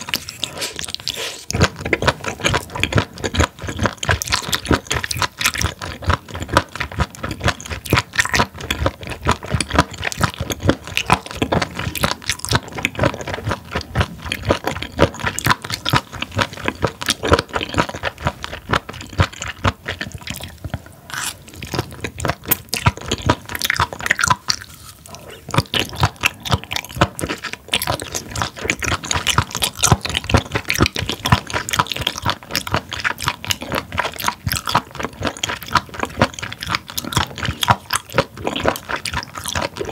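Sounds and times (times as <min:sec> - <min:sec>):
crunchy wet chewing: 0:00.0 - 0:39.9.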